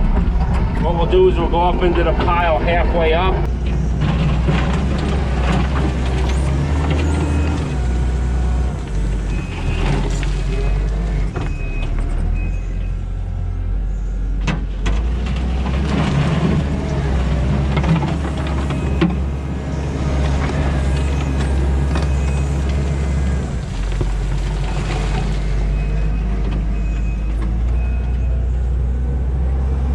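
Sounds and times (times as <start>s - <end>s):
diesel engine under load: 0.0s - 29.9s.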